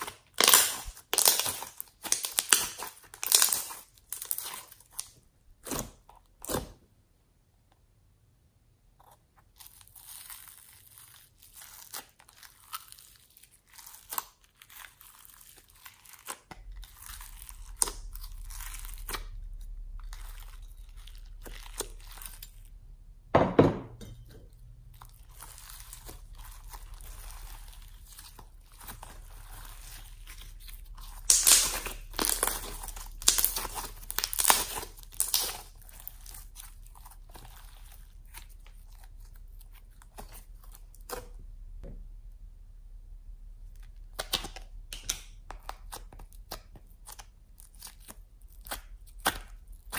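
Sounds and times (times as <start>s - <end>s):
crunchy slime crackling: 0.0s - 6.8s, 9.0s - 22.8s, 24.5s - 41.5s, 43.6s - 49.9s
slime squelching: 0.0s - 6.8s, 9.0s - 23.1s, 24.2s - 41.9s, 43.5s - 49.9s.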